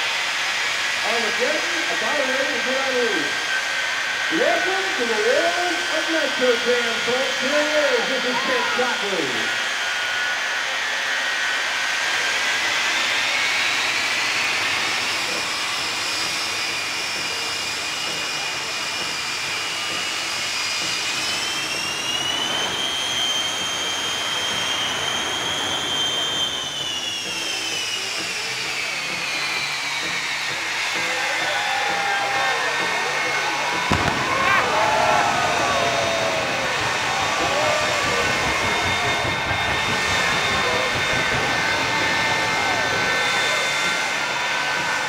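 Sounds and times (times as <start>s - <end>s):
jet engines roaring with whine: 0.0s - 45.0s.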